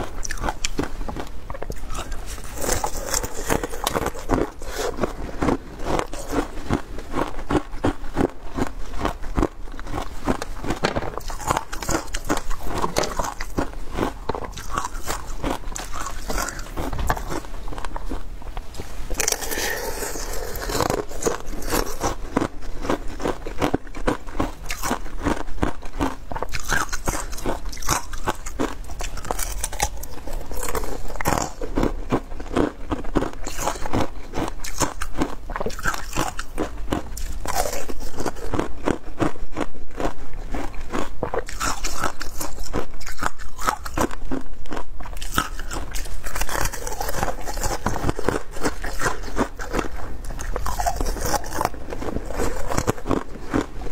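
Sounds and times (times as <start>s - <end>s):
ice crunching being chewed: 0.0s - 53.9s.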